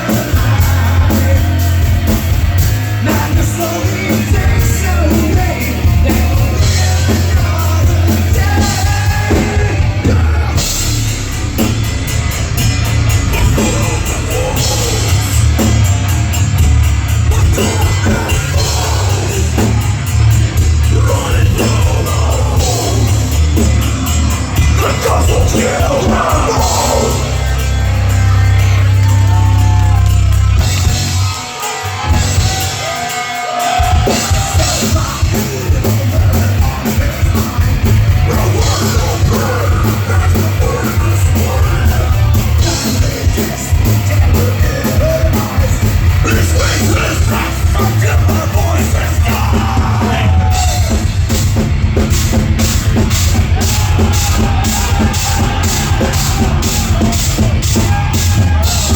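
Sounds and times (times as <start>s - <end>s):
person shouting singing: 0.0s - 2.2s, 3.0s - 11.0s, 13.2s - 16.2s, 17.2s - 23.7s, 24.3s - 30.4s, 31.2s - 51.3s, 52.9s - 58.9s
drums: 0.0s - 58.9s
heavy metal band playing live: 0.0s - 58.9s.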